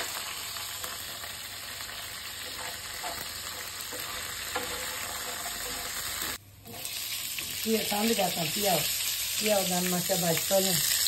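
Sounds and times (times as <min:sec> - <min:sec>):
seeds sizzling in oil: 0:00.0 - 0:11.0.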